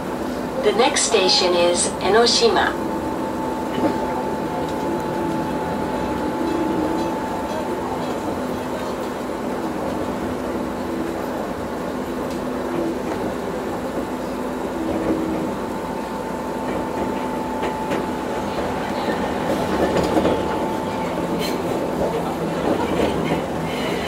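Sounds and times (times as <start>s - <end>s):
electric train running: 0.0s - 24.0s.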